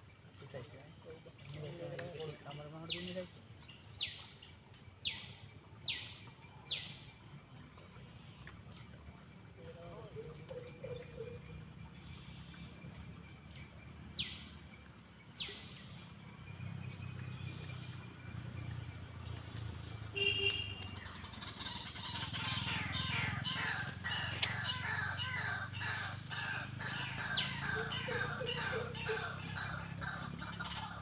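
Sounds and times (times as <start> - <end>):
steady low hum: 3.2 - 31.0.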